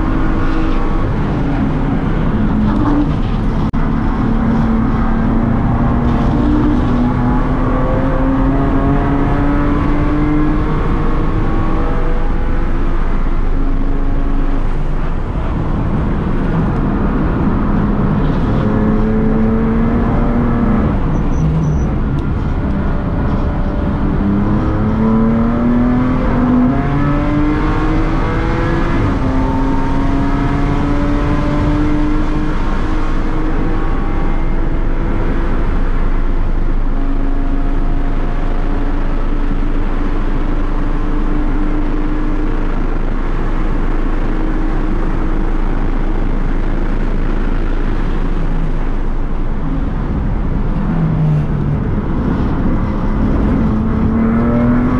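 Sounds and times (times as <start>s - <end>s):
race car engine accelerating: 0.0s - 54.9s
road and wind noise: 0.0s - 54.9s.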